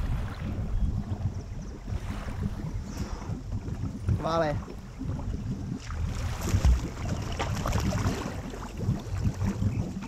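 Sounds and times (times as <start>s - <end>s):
water splashing and sloshing: 0.0s - 10.0s
wind noise on microphone: 0.0s - 10.0s.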